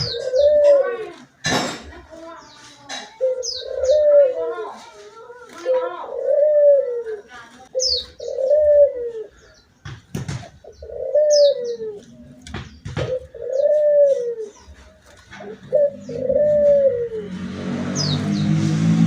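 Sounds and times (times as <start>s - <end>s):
dove cooing: 0.0s - 1.3s, 2.9s - 9.6s, 10.3s - 18.3s.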